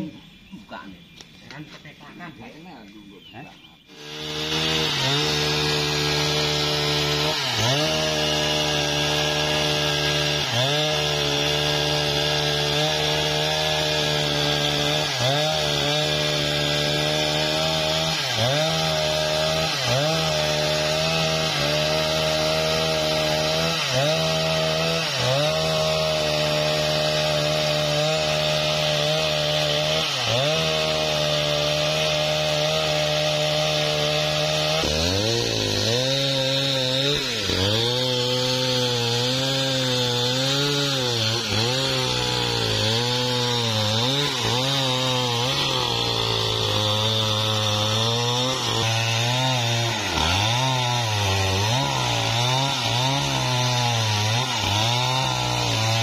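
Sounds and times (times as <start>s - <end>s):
chainsaw cutting log: 3.9s - 56.0s.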